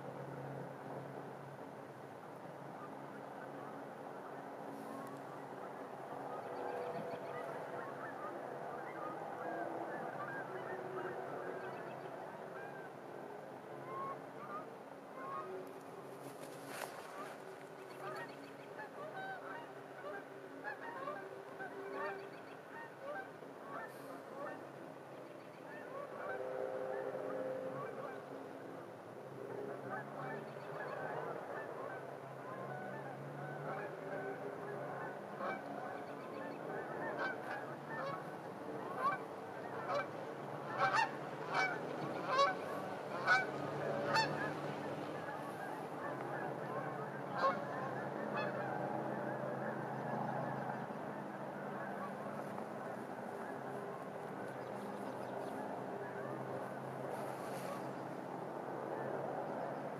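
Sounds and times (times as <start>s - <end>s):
geese honking: 4.7s - 24.8s, 25.7s - 57.9s.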